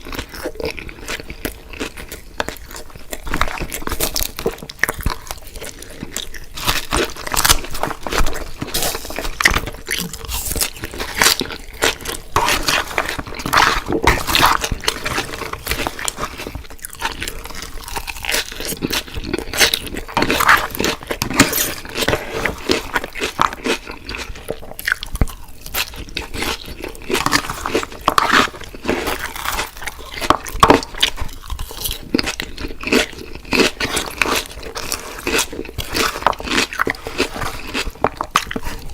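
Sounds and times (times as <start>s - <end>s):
crunching crispy food: 0.0s - 38.9s.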